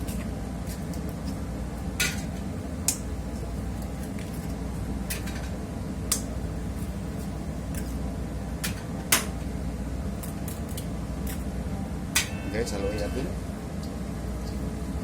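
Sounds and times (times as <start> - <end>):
ship machinery hum: 0.0 - 15.0.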